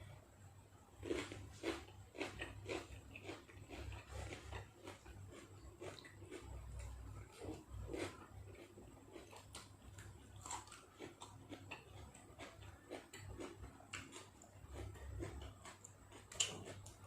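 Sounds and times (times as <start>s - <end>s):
person chewing food: 1.0s - 17.0s.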